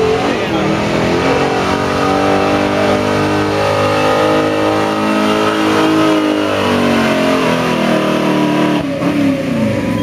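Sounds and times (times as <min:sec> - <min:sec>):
truck engine at full throttle: 0:00.0 - 0:10.0.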